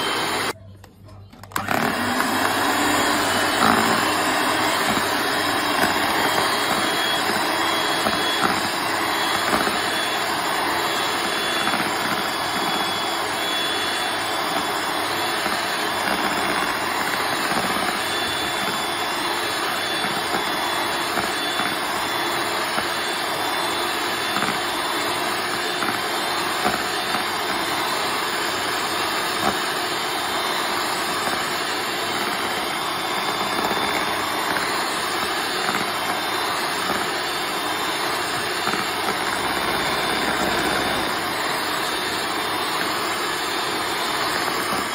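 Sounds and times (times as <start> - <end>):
electric hand mixer whirring: 0.0 - 0.6, 1.4 - 44.9.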